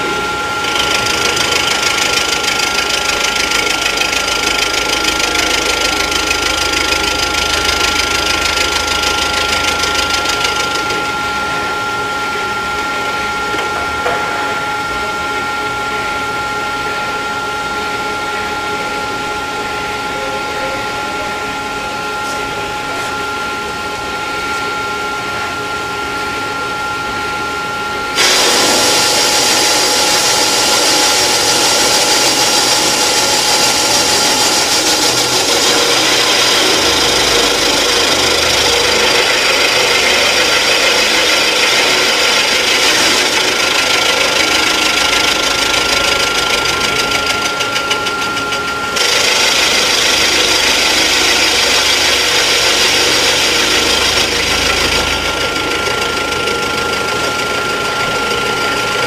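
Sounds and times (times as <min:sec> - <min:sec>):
cutter machining metal: 0:00.0 - 0:59.0
machine whine: 0:00.0 - 0:59.0.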